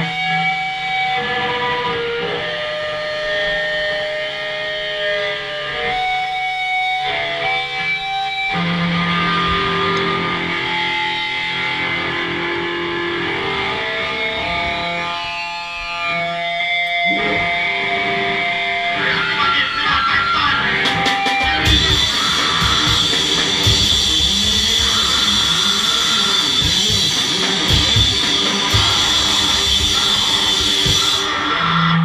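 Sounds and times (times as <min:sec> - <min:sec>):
distorted electric guitar droning: 0:00.0 - 0:32.0.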